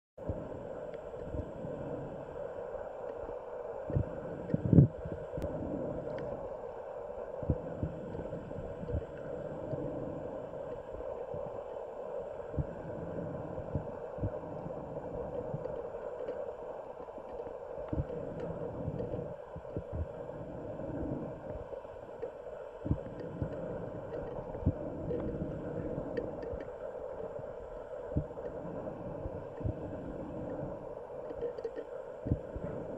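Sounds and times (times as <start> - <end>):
low underwater hum: 0.2 - 32.9.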